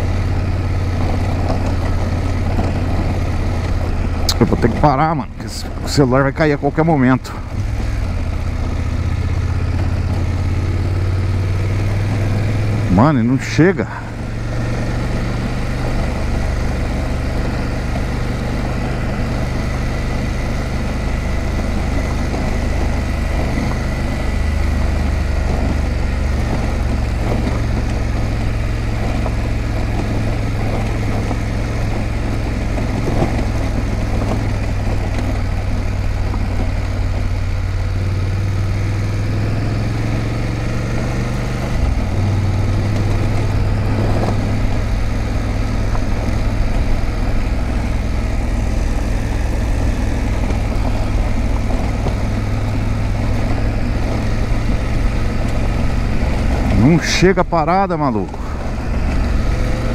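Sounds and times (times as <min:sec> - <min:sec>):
motorcycle engine running: 0:00.0 - 0:59.9
wind and tyre rushing noise: 0:00.0 - 0:59.9.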